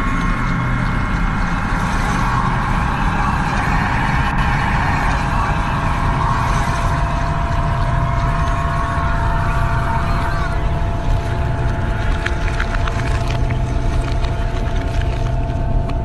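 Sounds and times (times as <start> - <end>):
dark ambient drone music: 0.0 - 16.0.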